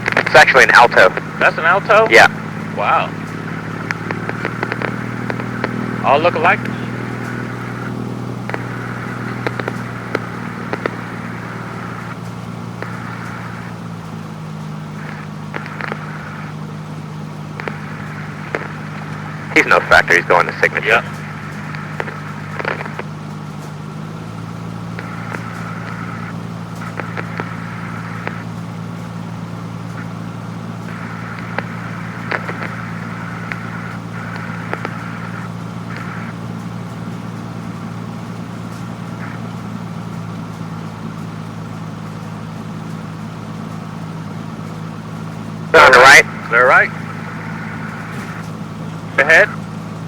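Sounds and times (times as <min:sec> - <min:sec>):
aircraft engine droning: 0:00.0 - 0:50.0.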